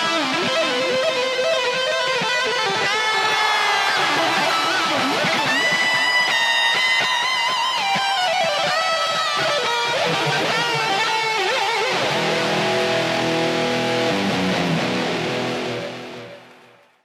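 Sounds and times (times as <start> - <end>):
electric guitar lead with bends: 0.0 - 3.3, 4.0 - 16.5.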